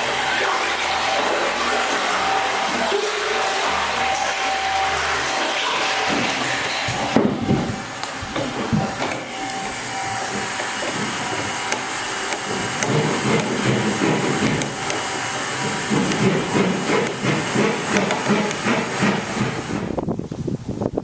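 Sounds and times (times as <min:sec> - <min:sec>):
motor rattling and clicking: 0:00.0 - 0:20.2
steady machine noise: 0:00.0 - 0:20.2.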